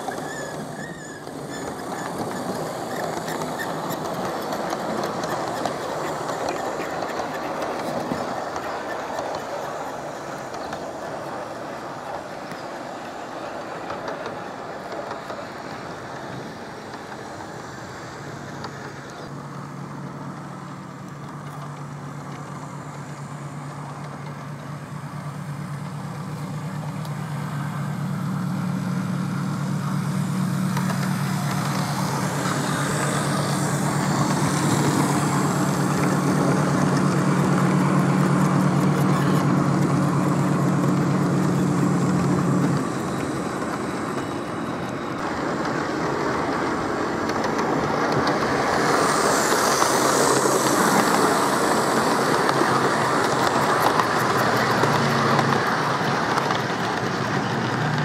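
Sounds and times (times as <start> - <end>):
model locomotive drone: 0.0 - 58.0
train rolling noise: 0.0 - 58.0.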